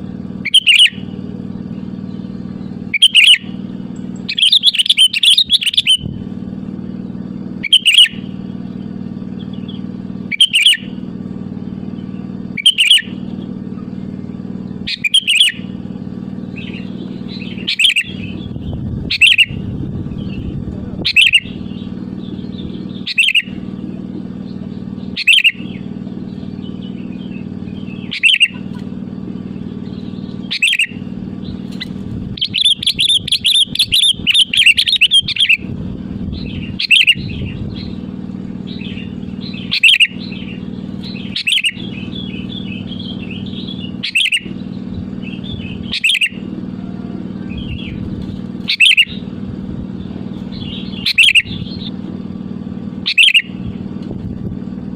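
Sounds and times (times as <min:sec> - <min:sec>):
bird calling: 0:00.0 - 0:54.0
low hum: 0:00.0 - 0:54.9.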